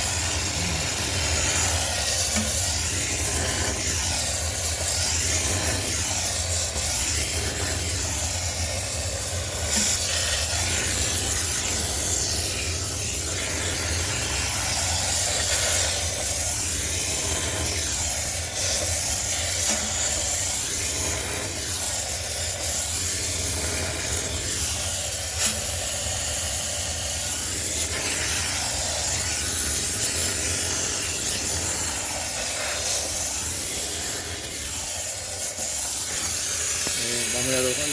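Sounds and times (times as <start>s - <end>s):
steam cleaner hissing: 0.0s - 37.9s.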